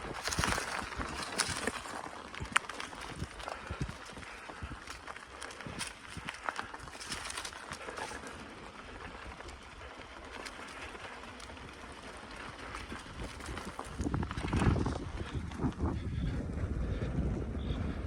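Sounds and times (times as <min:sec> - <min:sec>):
bicycle tyres crunching on ground: 0:00.0 - 0:18.0
bike clicks and rattles: 0:00.0 - 0:18.0
wind buffeting microphone: 0:00.0 - 0:18.0.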